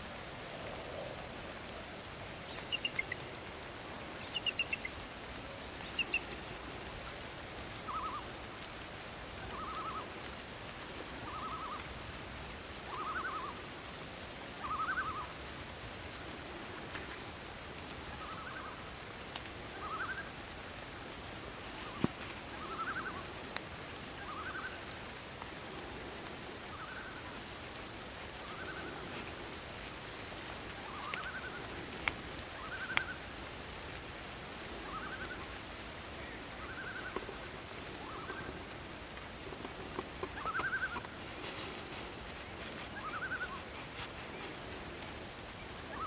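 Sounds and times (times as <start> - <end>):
steady hiss: 0.0 - 46.0.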